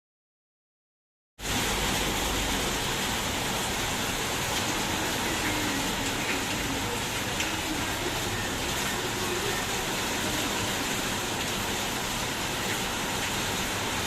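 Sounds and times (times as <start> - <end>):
heavy rain falling: 1.4 - 14.0.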